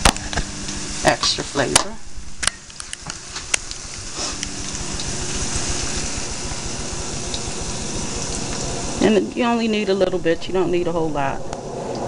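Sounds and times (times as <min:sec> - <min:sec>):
vegetables sizzling in oil: 0:00.0 - 0:11.3.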